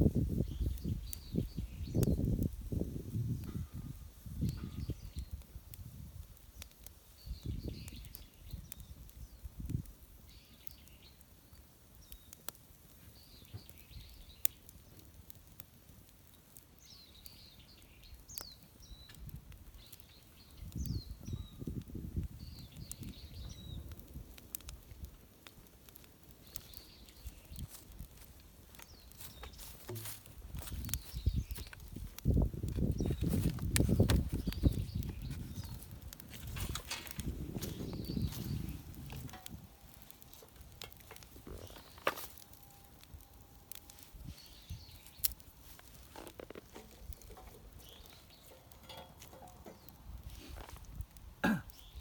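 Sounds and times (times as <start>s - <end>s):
small birds chirping: 0.2s - 52.0s.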